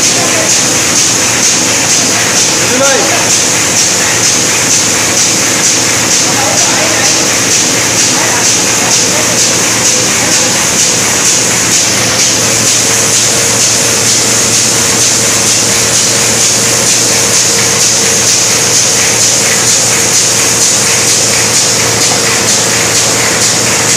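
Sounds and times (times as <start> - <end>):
machine mechanical rhythm: 0.0 - 23.9.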